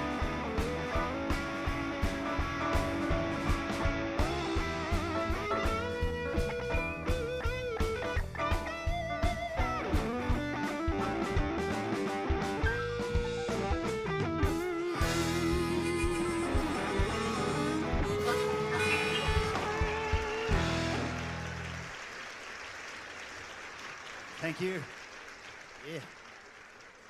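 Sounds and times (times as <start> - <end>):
steady drum beat: 0.0 - 21.7
lead electric guitar: 0.0 - 21.9
bass: 0.0 - 22.0.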